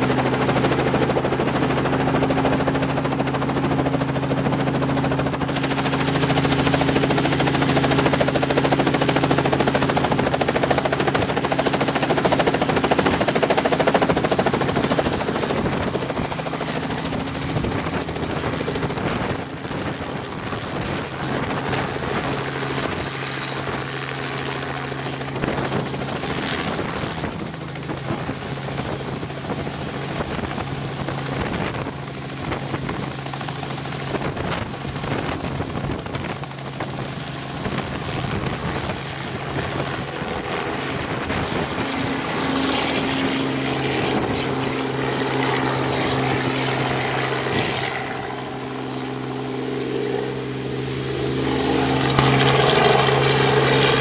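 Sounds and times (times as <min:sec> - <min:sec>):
helicopter engine humming: 0:00.0 - 0:54.0
helicopter rotor chop: 0:00.0 - 0:54.0.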